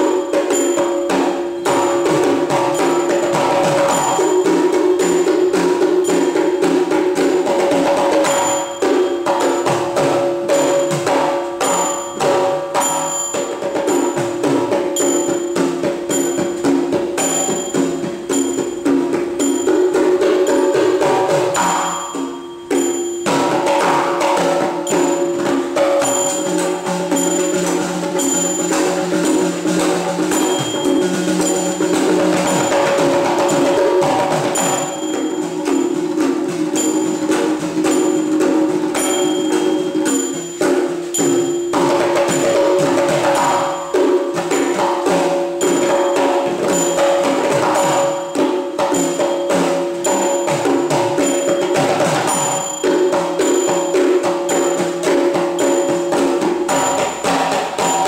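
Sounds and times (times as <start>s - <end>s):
hourglass drum: 0.0s - 58.0s
pot drums played with hands: 0.0s - 58.0s
small cymbals ticking beat: 0.0s - 58.0s.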